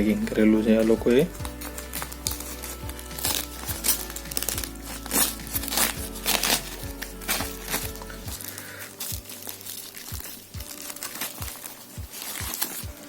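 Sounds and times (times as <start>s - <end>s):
background music with beat: 0.0s - 13.0s
packaging crinkling: 0.0s - 13.0s.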